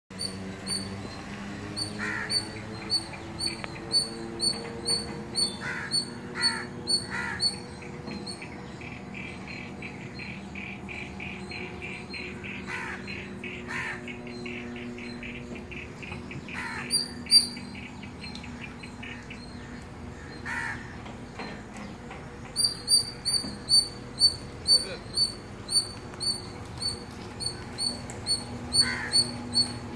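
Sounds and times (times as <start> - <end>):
low motor hum: 0.1 - 29.9
bird calls: 0.2 - 29.9.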